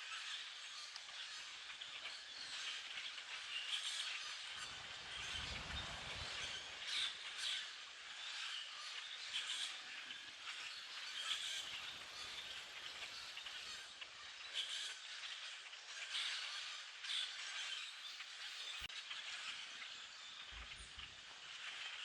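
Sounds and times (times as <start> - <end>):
flock of grackles chattering: 0.0 - 22.0.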